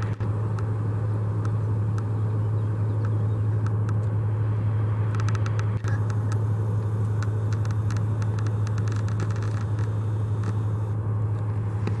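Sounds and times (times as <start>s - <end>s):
barge diesel engine drone: 0.0s - 12.0s.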